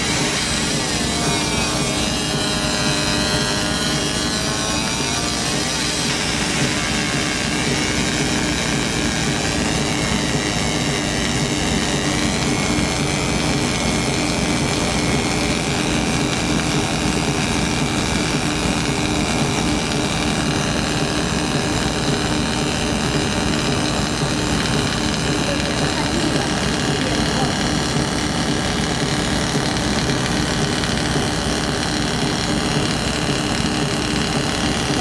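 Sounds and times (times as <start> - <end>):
laser marking machine drone: 0.0 - 35.0.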